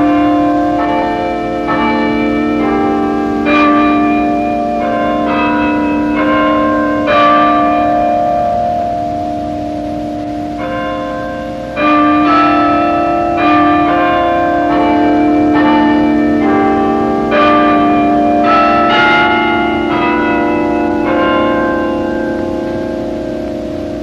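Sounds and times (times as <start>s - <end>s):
chime bells playing slow tune: 0.0s - 24.0s.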